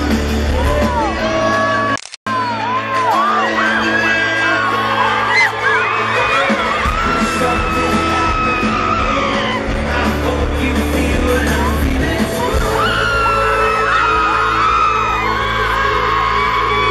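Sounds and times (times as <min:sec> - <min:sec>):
fans screaming and singing along: 0:00.0 - 0:16.9
live pop band music: 0:00.0 - 0:16.9.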